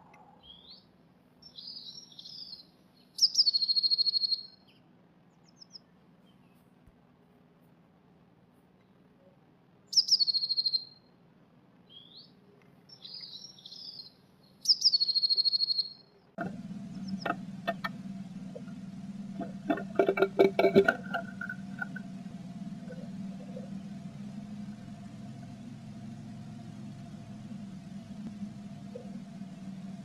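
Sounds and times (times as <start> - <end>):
soft bird chatter: 0.0 - 6.9, 8.5 - 11.1, 11.8 - 30.0
steady low hum: 0.0 - 30.0
bird singing a trill: 0.3 - 6.6, 9.9 - 11.1, 11.8 - 16.2, 16.8 - 30.0.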